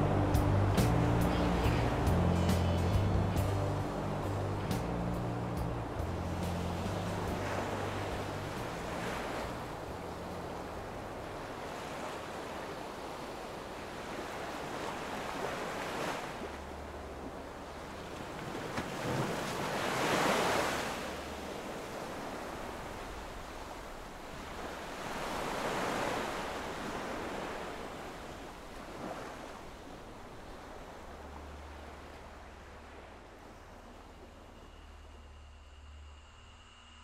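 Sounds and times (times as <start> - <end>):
ocean surf washing in: 0.0 - 36.9
wind: 0.0 - 37.0.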